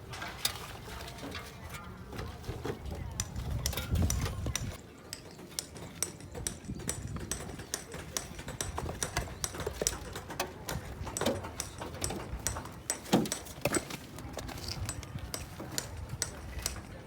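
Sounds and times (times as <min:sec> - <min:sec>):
stones and tools clacking: 0:03.2 - 0:17.0.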